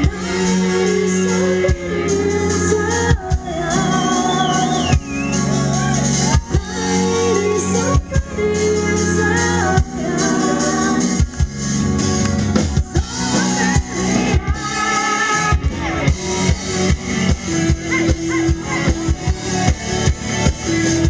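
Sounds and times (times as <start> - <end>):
person singing: 0.0 - 11.7, 12.6 - 21.0
live pop-rock band playing: 0.0 - 21.0.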